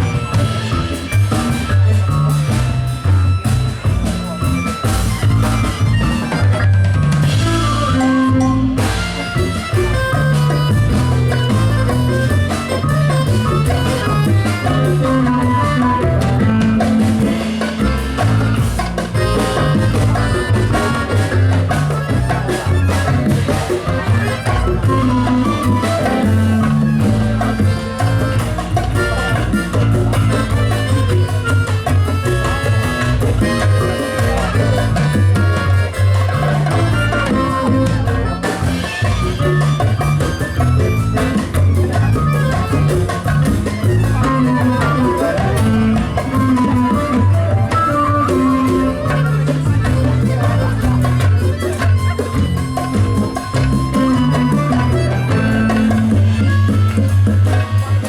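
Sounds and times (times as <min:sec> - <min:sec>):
live band playing: 0:00.0 - 0:58.0
moving bass line: 0:00.0 - 0:58.0.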